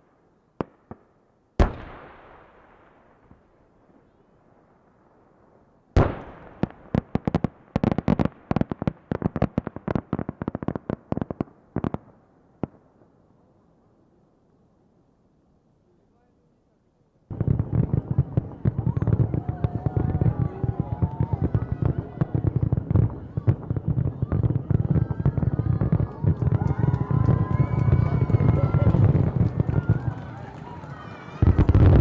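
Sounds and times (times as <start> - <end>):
firework crackling pops: 0.6 - 5.0, 6.0 - 12.8, 17.3 - 32.0.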